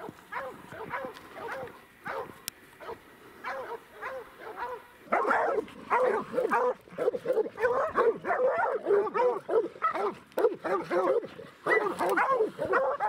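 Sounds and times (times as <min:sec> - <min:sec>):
hounds barking and bawling: 0:00.0 - 0:13.0.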